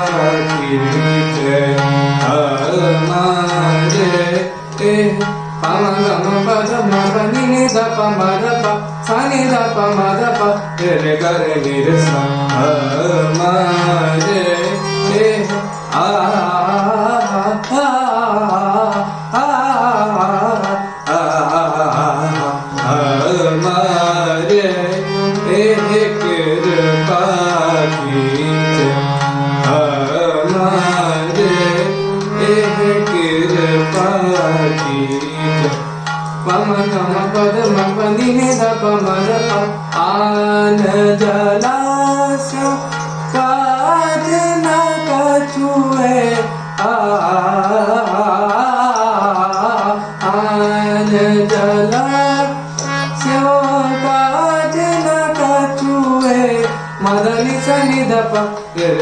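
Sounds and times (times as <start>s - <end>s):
person singing ornamented melody: 0.0s - 59.0s
tabla: 0.0s - 59.0s.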